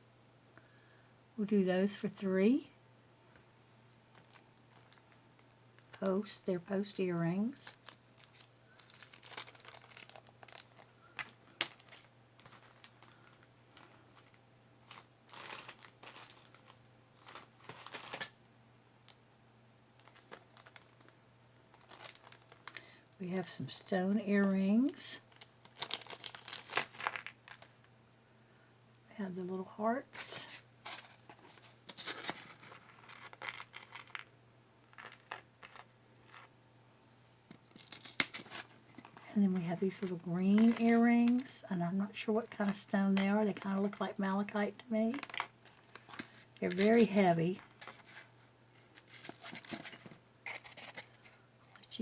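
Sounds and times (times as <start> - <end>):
crinkling rustles: 3.3 - 18.4, 19.9 - 28.0, 30.1 - 34.3, 34.9 - 36.6, 37.4 - 52.0.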